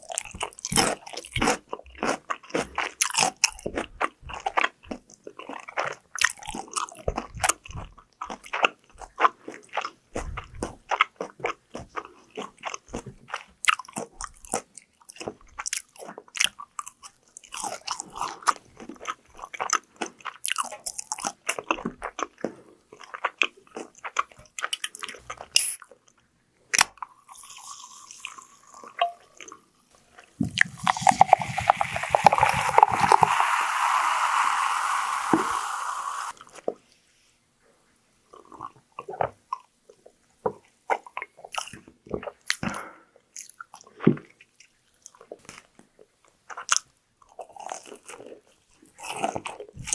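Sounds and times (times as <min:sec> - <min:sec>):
crunchy chewing of fried food: 0:00.0 - 0:34.4, 0:38.2 - 0:49.9.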